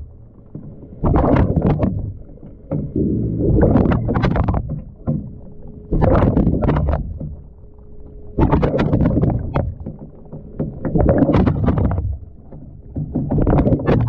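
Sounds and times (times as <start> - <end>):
water sloshing in washing machine: 0.6 - 7.5, 8.4 - 14.0.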